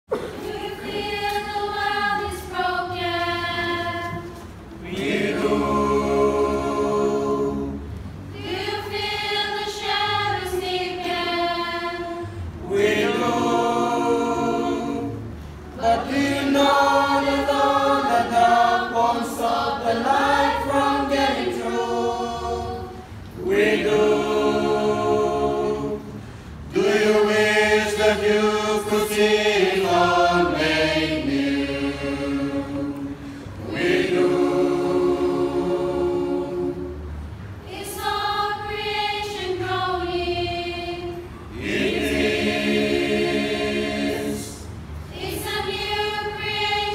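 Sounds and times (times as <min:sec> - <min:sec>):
choir singing a hymn: 0:00.1 - 0:46.9.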